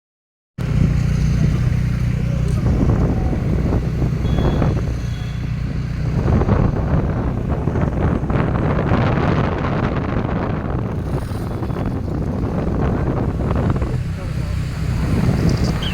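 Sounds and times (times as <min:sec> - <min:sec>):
vehicle engine humming: 0:00.6 - 0:15.9.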